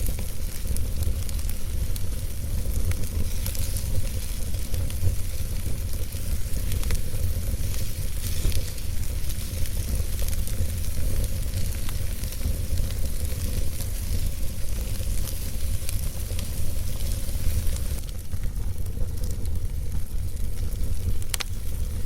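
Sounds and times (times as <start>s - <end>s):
flames hissing and rumbling: 0.0s - 22.0s
logs crackling and popping: 0.0s - 22.0s.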